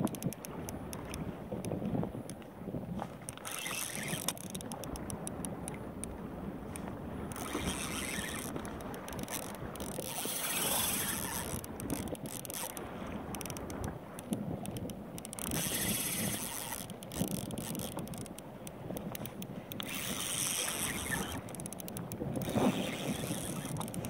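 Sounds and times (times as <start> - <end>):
fishing reel ticking: 0.0 - 24.0
water noise: 0.0 - 24.0
wind: 0.0 - 24.0.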